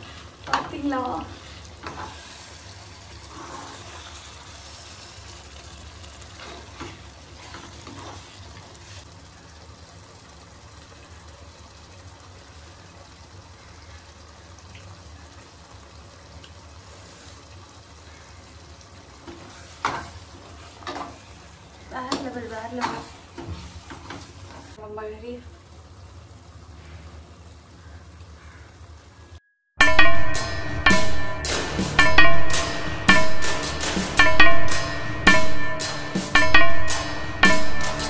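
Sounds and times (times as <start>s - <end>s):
food sizzling in a pan: 0.0s - 38.0s.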